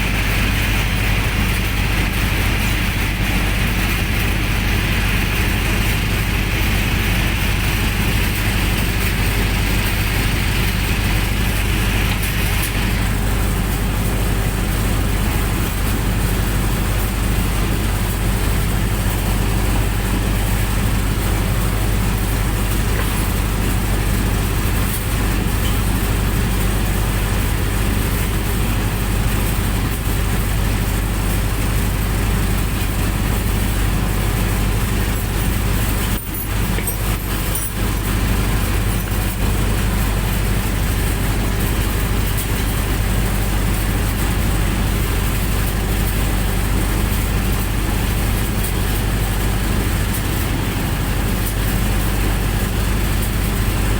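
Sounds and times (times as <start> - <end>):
generator engine droning: 0.0 - 53.9.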